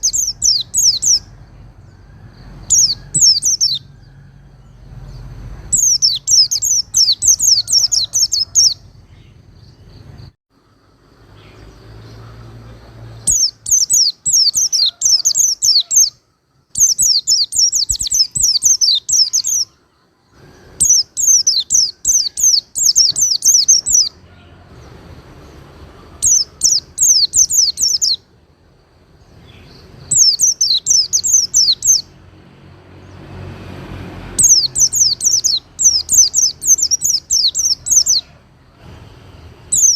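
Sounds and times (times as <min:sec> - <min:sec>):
small bird singing fast notes: 0:00.0 - 0:03.9, 0:04.6 - 0:10.3, 0:11.4 - 0:24.2, 0:25.4 - 0:28.3, 0:29.2 - 0:32.2, 0:34.2 - 0:38.3, 0:38.9 - 0:39.9.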